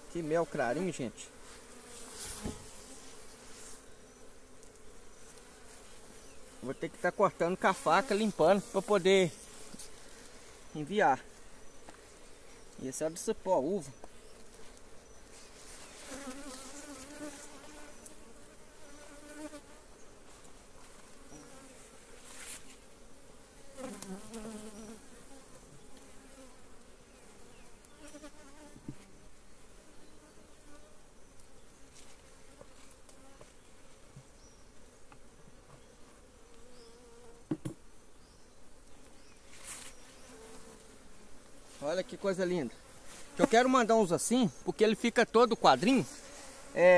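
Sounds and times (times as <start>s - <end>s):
honeybees buzzing: 0.0s - 46.9s.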